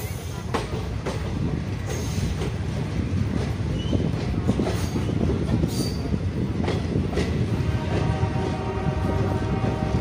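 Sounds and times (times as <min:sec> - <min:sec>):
train coach rumbling: 0:00.0 - 0:10.0
wheels clicking on track: 0:00.0 - 0:10.0.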